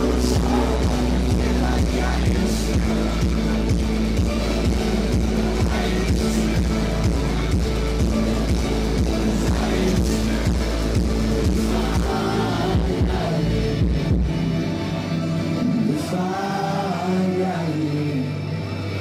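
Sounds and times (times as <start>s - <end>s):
loud electronic pop music: 0.0s - 19.0s.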